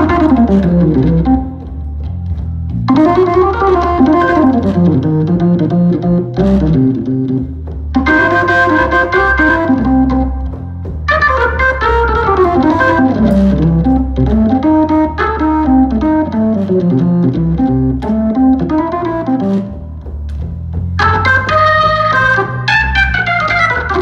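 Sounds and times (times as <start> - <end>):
organ chords through rotating speaker: 0.0 - 24.0.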